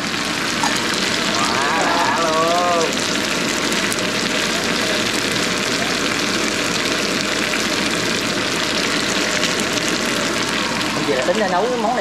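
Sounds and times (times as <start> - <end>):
range hood fan running: 0.0 - 12.0.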